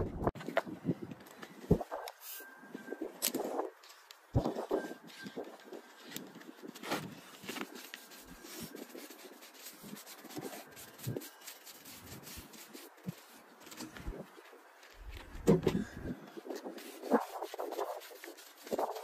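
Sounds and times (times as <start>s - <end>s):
brush scraping on rubber tire: 1.8s - 19.0s.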